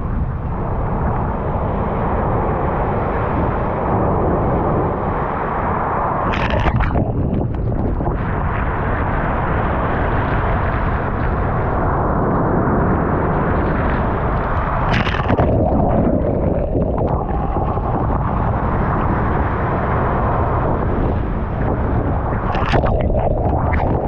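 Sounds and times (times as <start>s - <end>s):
steady rumble of surf: 0.0s - 24.0s.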